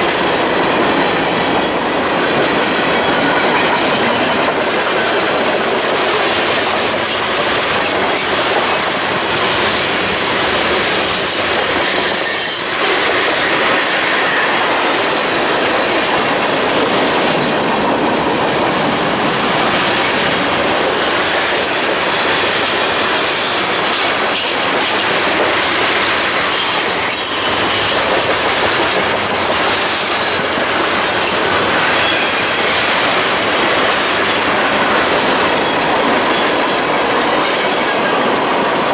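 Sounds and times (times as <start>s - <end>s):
train wheels rolling on rail: 0.0s - 38.9s.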